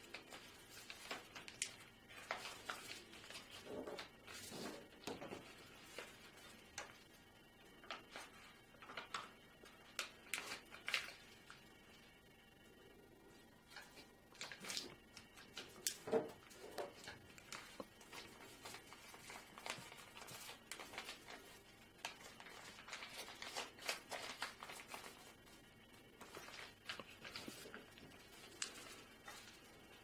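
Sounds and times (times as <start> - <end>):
paper rustling and crackling: 0.0 - 7.2, 7.8 - 12.0, 13.7 - 30.0.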